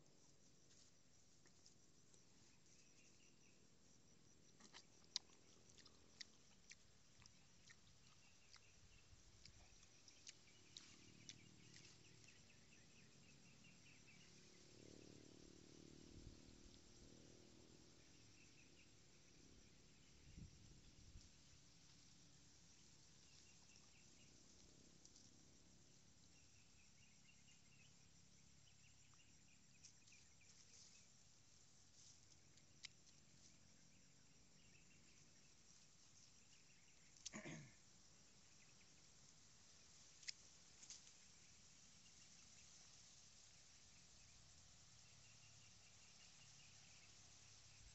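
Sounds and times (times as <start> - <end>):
insects chirping: 0.0 - 47.9.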